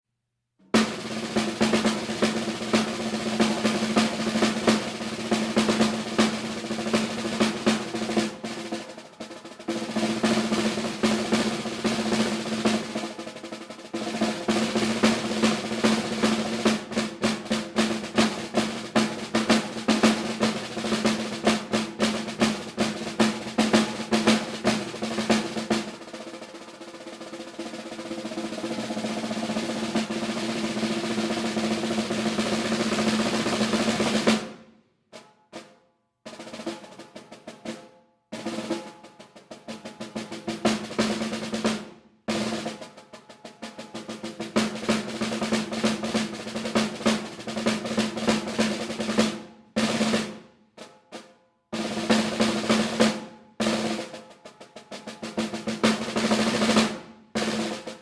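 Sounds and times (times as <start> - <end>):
snare drum playing: 0.7 - 58.0.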